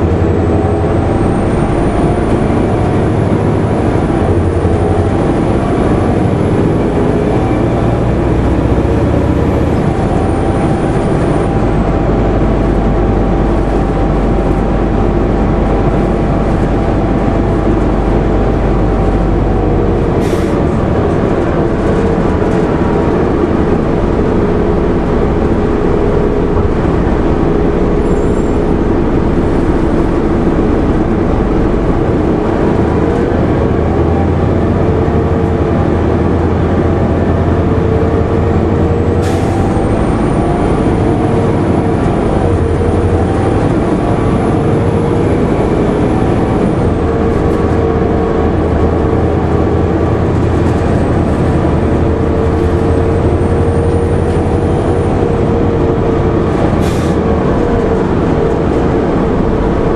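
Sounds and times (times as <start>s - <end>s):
diesel bus engine running: 0.0s - 59.9s
road rumble: 0.0s - 59.9s.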